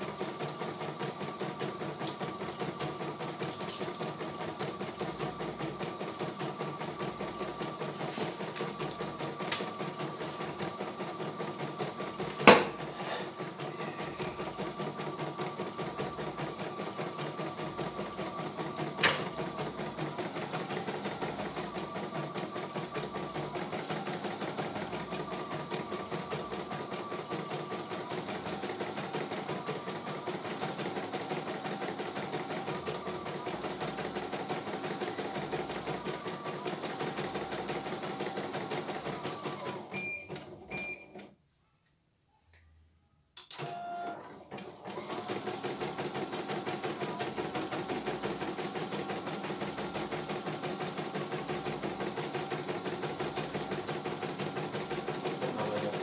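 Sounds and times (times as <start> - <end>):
embroidery machine stitching: 0.0 - 41.2, 44.2 - 56.0.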